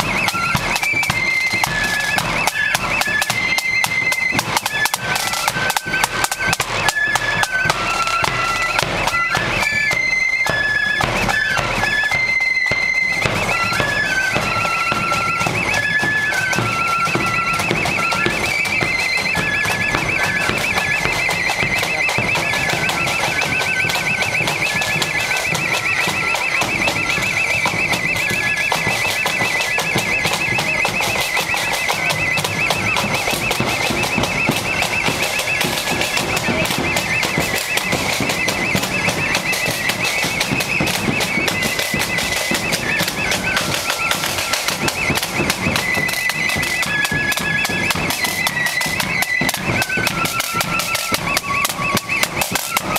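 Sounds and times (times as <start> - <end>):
flute melody: 0.0 - 52.9
steady drumbeats: 0.0 - 52.9.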